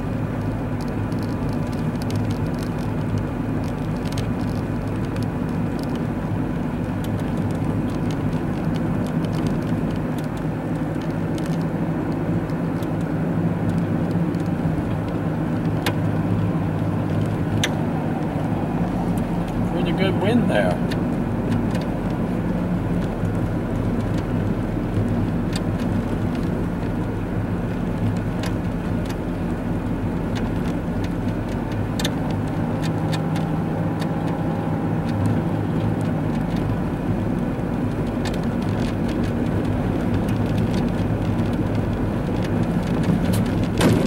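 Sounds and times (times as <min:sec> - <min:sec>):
car engine and road drone: 0:00.0 - 0:44.0.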